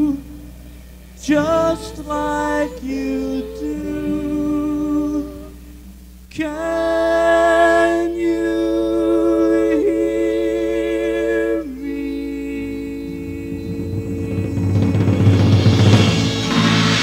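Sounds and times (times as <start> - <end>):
vocal group singing held chords: 0.0 - 17.0.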